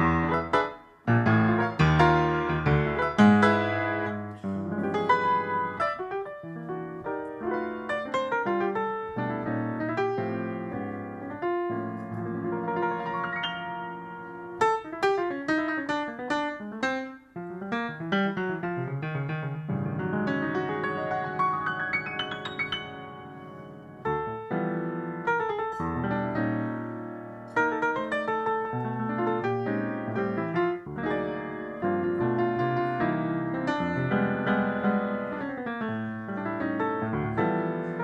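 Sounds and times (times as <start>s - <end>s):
grand piano playing: 0.0s - 38.0s.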